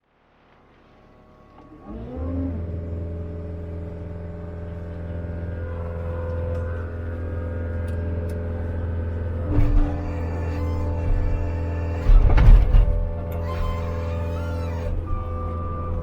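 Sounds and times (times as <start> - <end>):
diesel engine running: 1.3 - 16.0.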